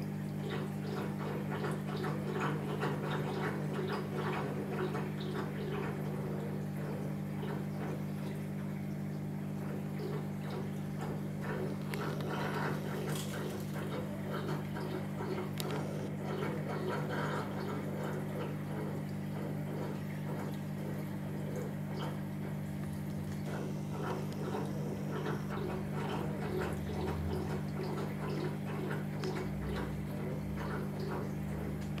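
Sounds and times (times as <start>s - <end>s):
aquarium pump humming: 0.0s - 32.0s
water bubbling and trickling: 0.0s - 32.0s.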